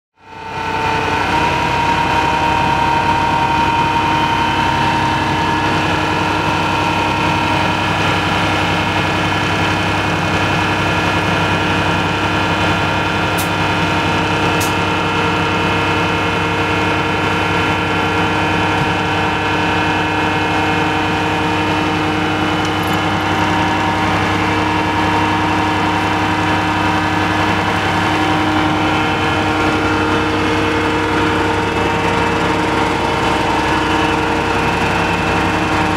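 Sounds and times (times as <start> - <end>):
drilling rig engine humming: 0.2 - 35.9.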